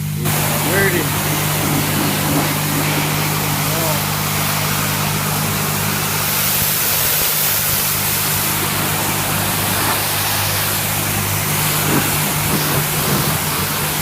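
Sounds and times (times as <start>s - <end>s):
car engine droning: 0.0s - 14.0s
water spray hissing: 0.0s - 14.0s.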